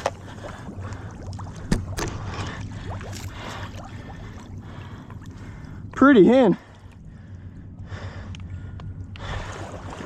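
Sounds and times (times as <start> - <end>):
water sloshing from wading: 0.0 - 10.0.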